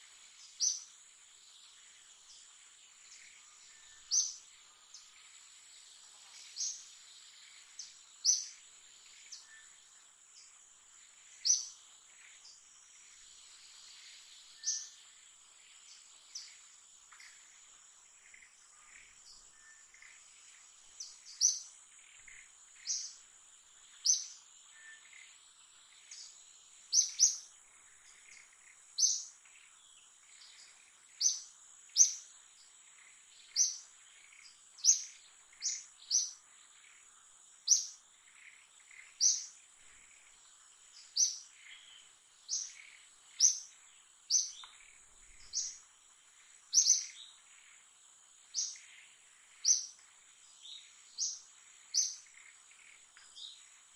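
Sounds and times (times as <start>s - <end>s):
bird chirping: 0.1s - 53.9s.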